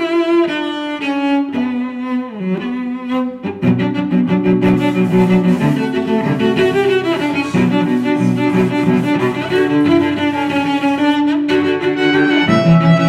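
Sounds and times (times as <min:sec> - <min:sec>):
bowed string music: 0:00.0 - 0:13.0.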